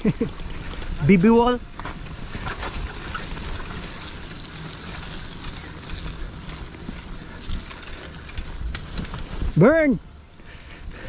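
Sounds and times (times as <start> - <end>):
bike ticks and rattles: 0.0 - 11.0
tyres rumbling on dirt: 0.0 - 11.0.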